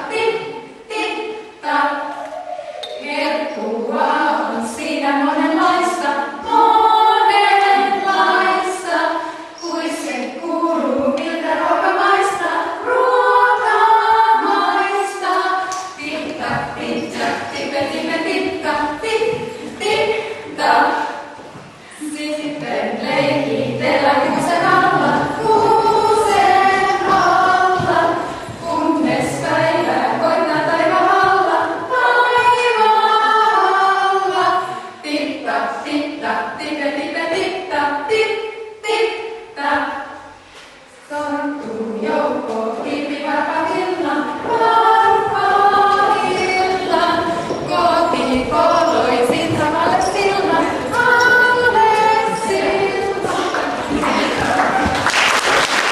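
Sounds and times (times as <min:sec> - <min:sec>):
women singing a cappella: 0:00.0 - 0:55.0.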